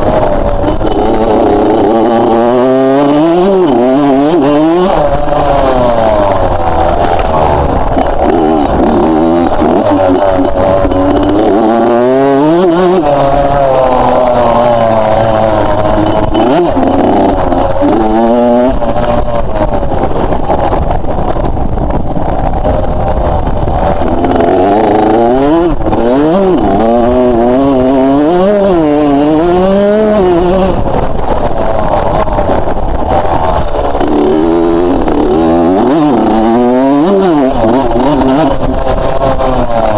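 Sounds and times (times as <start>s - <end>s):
two-stroke motocross bike revving: 0.0s - 39.9s.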